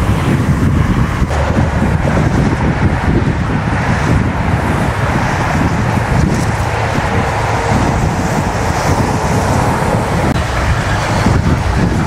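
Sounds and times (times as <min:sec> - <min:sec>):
highway traffic rushing: 0:00.0 - 0:12.0
wind buffeting microphone: 0:00.0 - 0:12.0.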